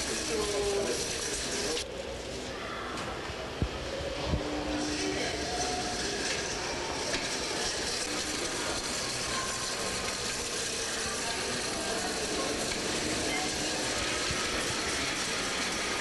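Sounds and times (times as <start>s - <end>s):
shopping cart rolling and rattling: 0.0s - 2.4s, 3.8s - 16.0s.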